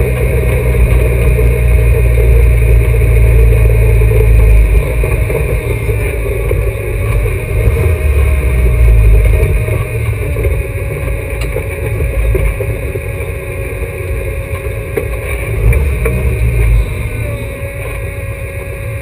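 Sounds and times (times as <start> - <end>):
race car engine running: 0.0 - 19.0.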